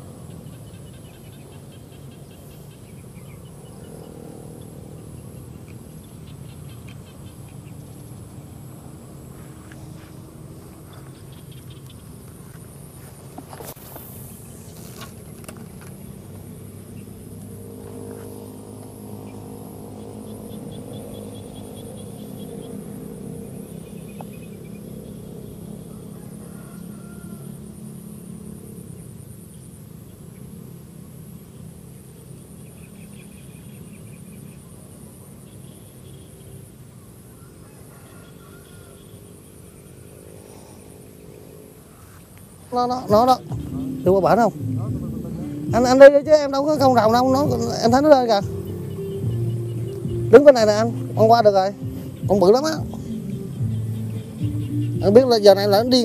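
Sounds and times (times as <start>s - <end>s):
high pulsing insect buzz: 0.0s - 56.0s
low engine hum: 0.0s - 56.0s.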